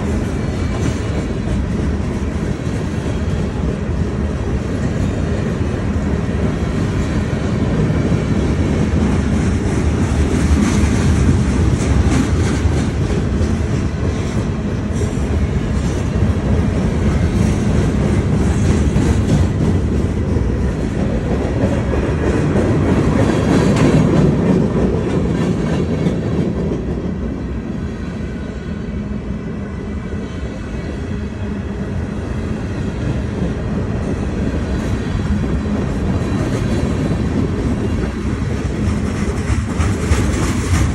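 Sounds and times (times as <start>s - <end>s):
train wheels clattering: 0.0s - 27.5s, 32.5s - 40.9s
freight train rumbling on rails: 0.0s - 40.9s.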